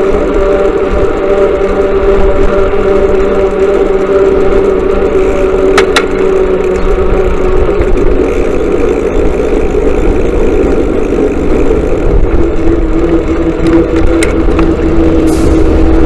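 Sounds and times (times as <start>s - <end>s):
heavy low rumble: 0.0s - 16.0s
motorcycle engine running: 0.0s - 16.0s.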